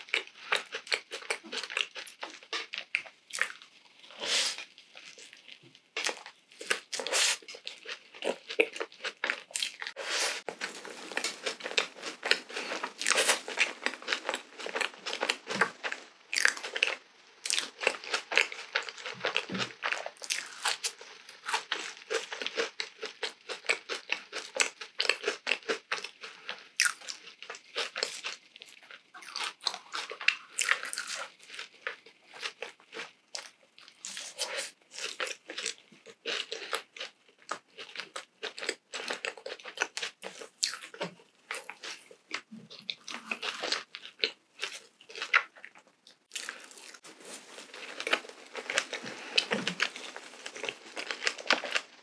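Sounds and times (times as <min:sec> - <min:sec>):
close chewing crunchy donut: 0:00.0 - 0:52.0.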